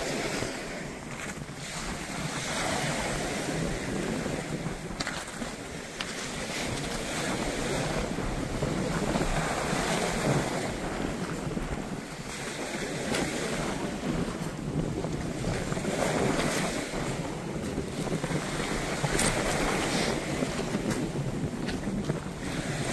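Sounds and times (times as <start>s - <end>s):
surf on pebble beach: 0.0s - 22.9s
wind buffeting microphone: 0.0s - 22.9s.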